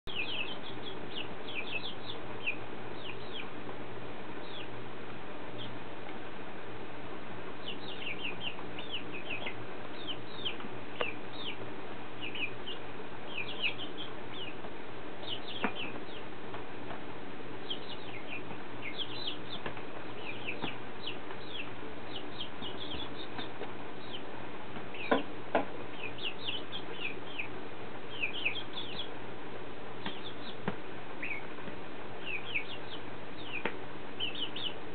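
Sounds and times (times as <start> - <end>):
background noise: 0.0 - 34.9
young chickens peeping: 0.1 - 34.9.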